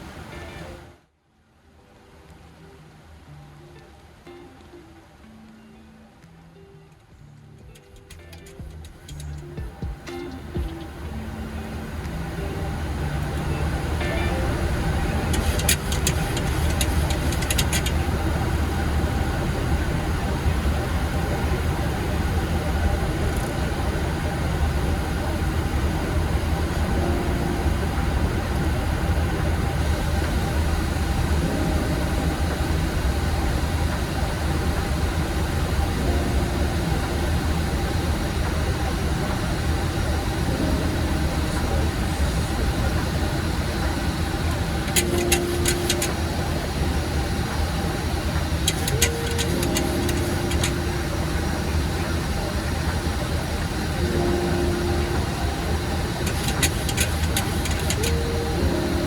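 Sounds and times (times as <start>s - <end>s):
muffled voices: 0.0s - 1.1s, 2.0s - 59.0s
airflow and engine drone: 0.0s - 59.0s.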